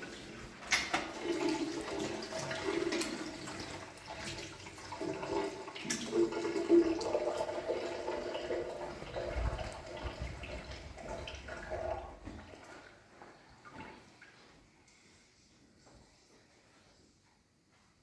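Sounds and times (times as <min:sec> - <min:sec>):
water running and splashing: 0:00.0 - 0:14.6.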